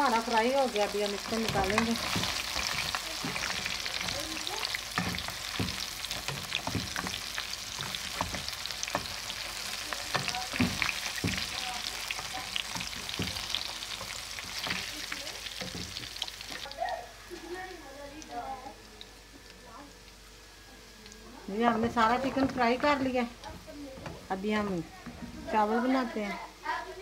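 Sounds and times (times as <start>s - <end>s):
chicken sizzling in hot oil: 0.0s - 24.6s.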